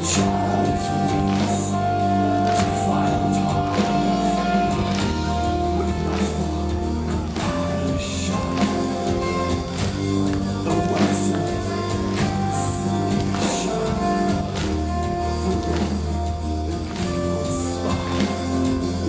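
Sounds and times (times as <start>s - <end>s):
metal band playing live: 0.0s - 19.0s.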